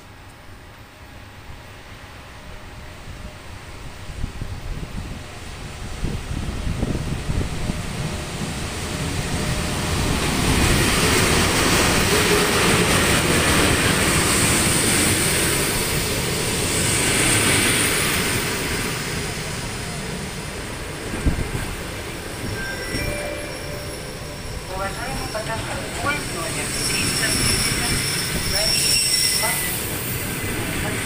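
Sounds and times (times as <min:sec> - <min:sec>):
train wheels rumbling on rails: 0:03.1 - 0:23.2, 0:23.9 - 0:31.0.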